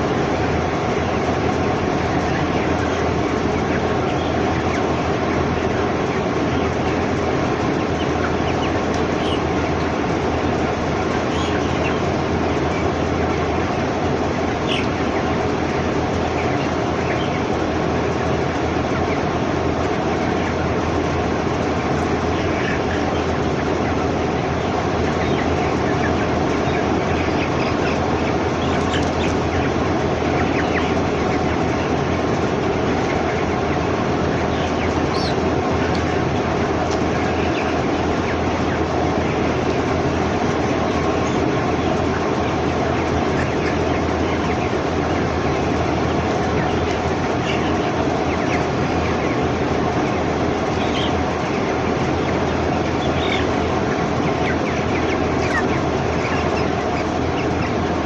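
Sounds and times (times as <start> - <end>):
chickens cheeping: 0.0 - 58.0
ventilation fans droning: 0.0 - 58.0.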